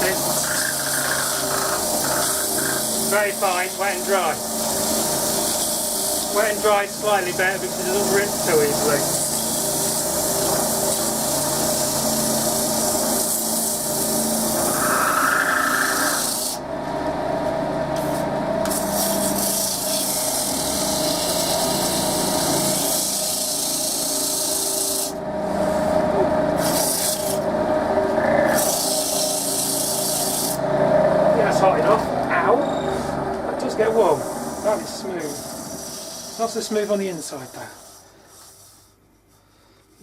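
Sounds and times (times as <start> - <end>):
sandpaper rubbing on spinning wood: 0.0 - 16.6, 18.1 - 26.0, 26.6 - 27.5, 28.4 - 30.6, 33.8 - 39.0
wood lathe hum: 0.0 - 17.7, 18.6 - 39.0.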